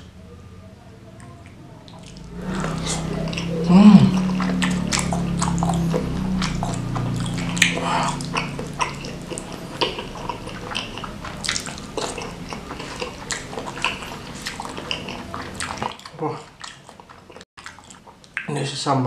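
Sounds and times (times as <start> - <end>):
wet mouth chewing sounds: 1.2 - 18.5.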